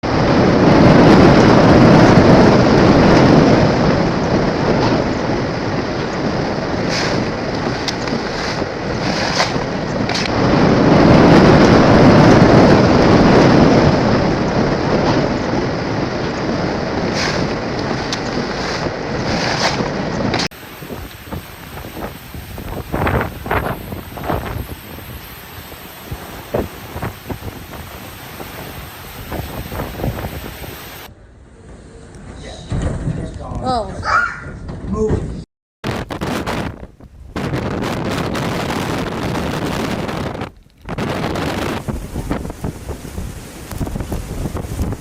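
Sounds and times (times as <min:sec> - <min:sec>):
storm wind buffeting microphone: 0:00.0 - 0:31.1, 0:34.6 - 0:45.0.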